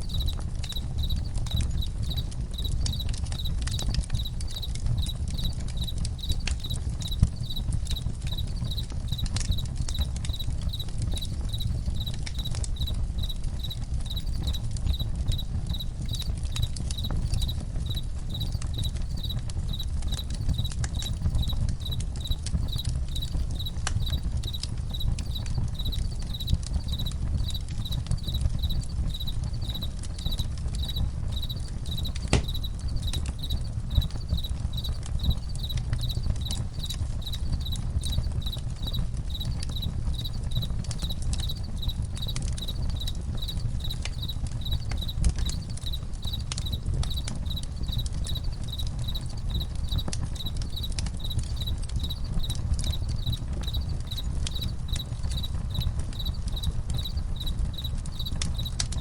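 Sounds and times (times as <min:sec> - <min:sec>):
campfire crackling and popping: 0:00.0 - 0:59.0
crickets chirping: 0:00.0 - 0:59.0.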